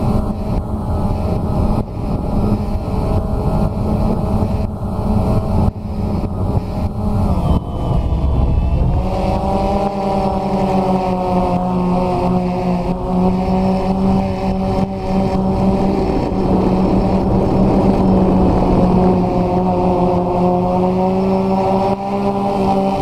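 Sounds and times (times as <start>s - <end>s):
drone motors humming: 0.0s - 23.0s.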